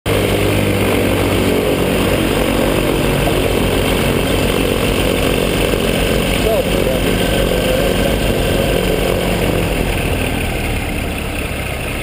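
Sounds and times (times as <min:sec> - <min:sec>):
engine and propeller running: 0:00.0 - 0:12.0.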